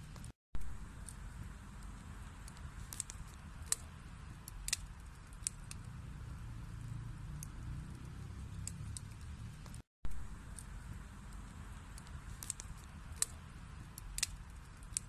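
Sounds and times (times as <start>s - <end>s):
fire flame rumble: 0.0s - 15.0s
logs crackling and popping: 0.0s - 15.0s.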